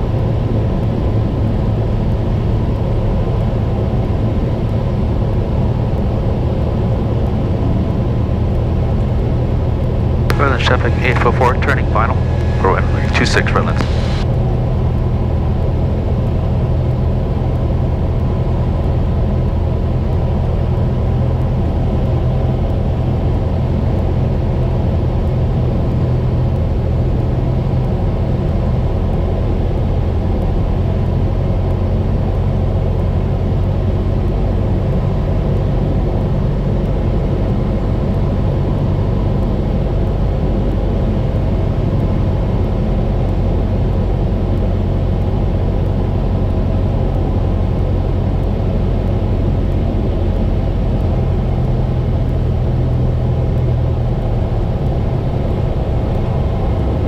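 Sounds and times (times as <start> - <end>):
propeller airplane engine droning: 0.0 - 57.0.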